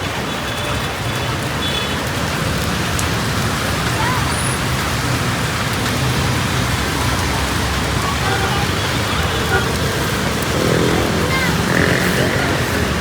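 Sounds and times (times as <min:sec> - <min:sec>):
road traffic passing: 0:00.0 - 0:13.0
steady rain: 0:00.0 - 0:13.0.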